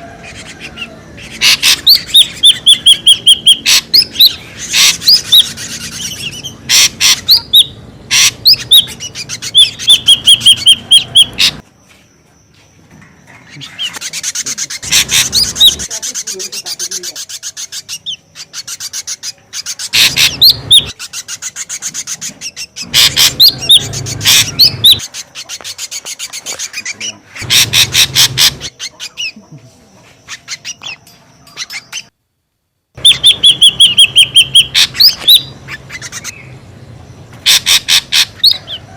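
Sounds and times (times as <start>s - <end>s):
bird chattering and whistling: 0.0s - 11.6s, 13.2s - 32.1s, 33.0s - 38.9s.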